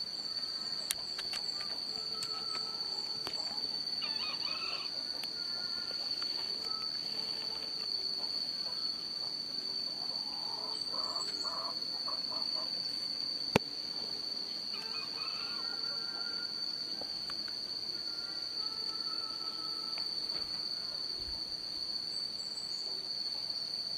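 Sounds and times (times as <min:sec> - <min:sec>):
high-pitched insect drone: 0:00.0 - 0:23.9.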